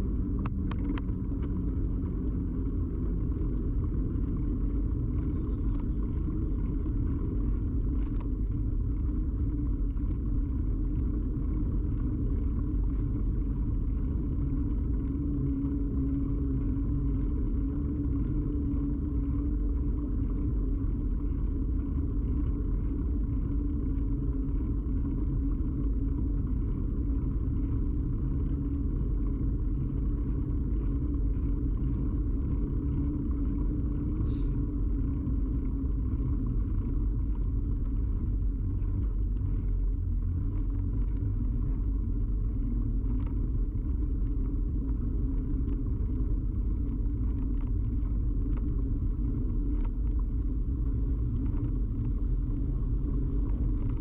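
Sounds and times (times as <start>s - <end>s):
bicycle tyre rumble: 0.0s - 54.0s
faint ticks: 0.0s - 54.0s.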